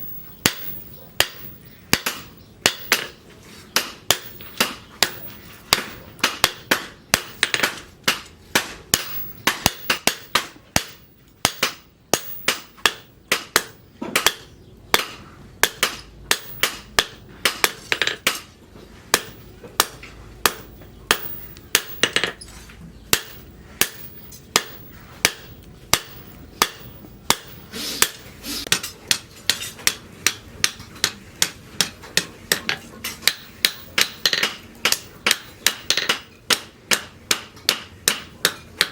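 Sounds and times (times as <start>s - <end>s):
hammer striking metal on anvil: 0.0s - 3.2s, 3.8s - 18.5s, 19.1s - 22.4s, 23.1s - 38.9s.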